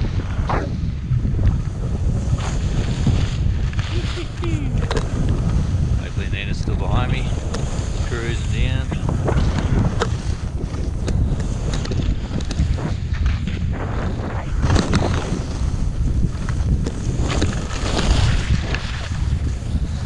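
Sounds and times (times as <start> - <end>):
wind buffeting microphone: 0.0 - 20.0
skis scraping on packed snow: 1.5 - 20.0.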